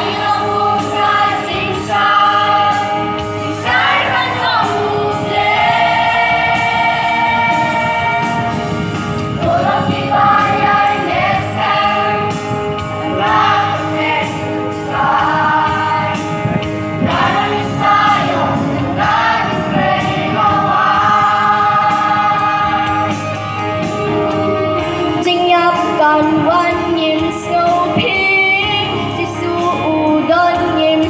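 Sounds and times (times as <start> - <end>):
choir singing a hymn: 0.0 - 24.9.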